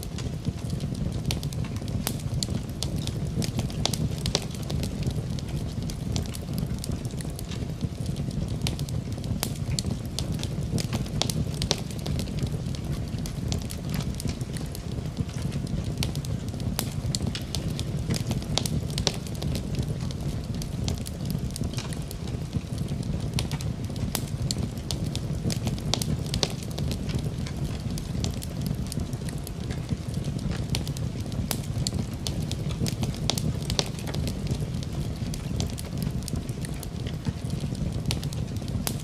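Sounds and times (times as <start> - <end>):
fireplace fire crackling: 0.0 - 39.0.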